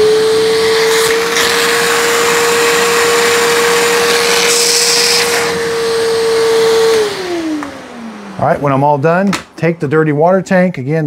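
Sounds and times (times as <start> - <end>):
suction motor whining: 0.0 - 9.3.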